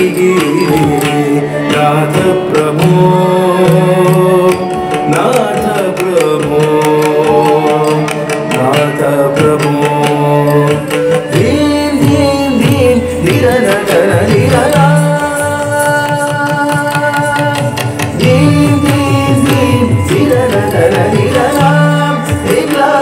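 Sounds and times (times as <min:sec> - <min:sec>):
classical dance music melody: 0:00.0 - 0:23.0
hand-drum strokes: 0:00.0 - 0:23.0.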